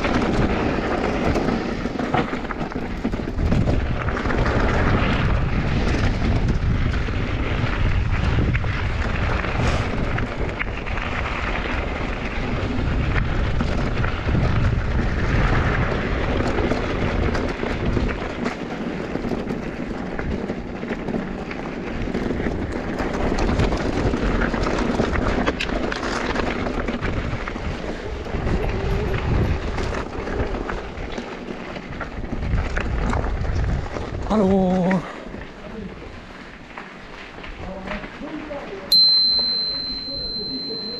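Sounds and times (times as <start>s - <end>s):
wind rushing over microphone: 0.0s - 31.1s, 31.8s - 36.2s
bike clicks and rattles: 0.0s - 40.9s
tyres rumbling over rough trail: 0.0s - 40.9s.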